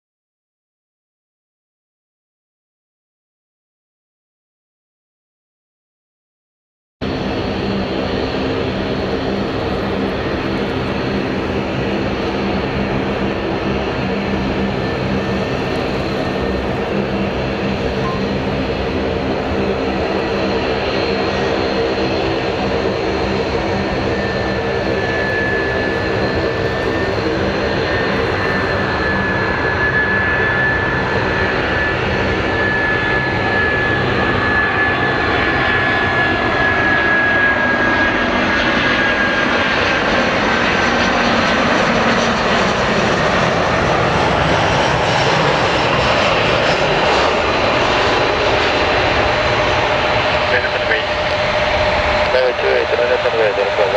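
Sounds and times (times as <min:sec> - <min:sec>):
aircraft engines humming: 0:07.0 - 0:53.9
high engine whine: 0:07.0 - 0:53.9.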